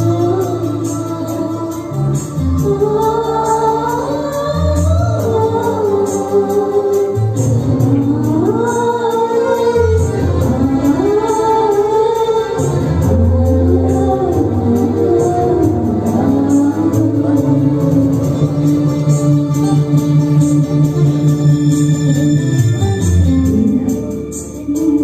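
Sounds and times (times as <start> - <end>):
electronic keyboard accompaniment: 0.0 - 25.0.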